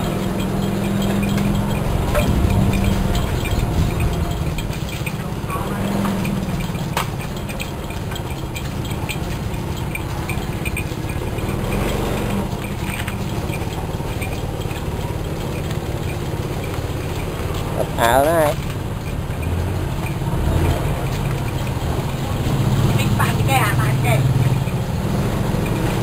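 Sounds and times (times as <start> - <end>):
engine running low rumble: 0.0 - 26.0.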